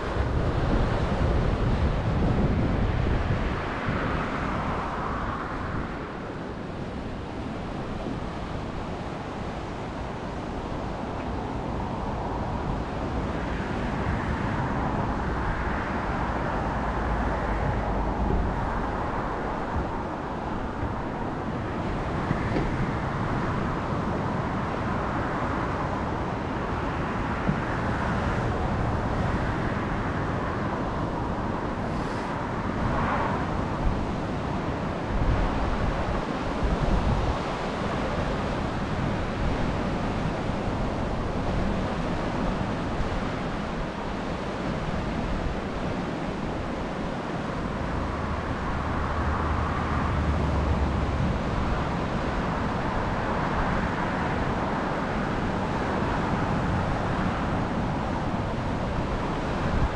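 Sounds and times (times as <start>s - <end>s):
road traffic: 0.0s - 59.9s
surf washing in: 0.0s - 59.9s
wind rumbling on microphone: 0.0s - 59.9s.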